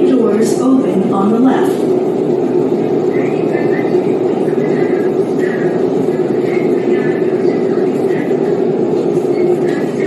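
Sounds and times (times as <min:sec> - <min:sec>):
train rumbling in motion: 0:00.0 - 0:10.0.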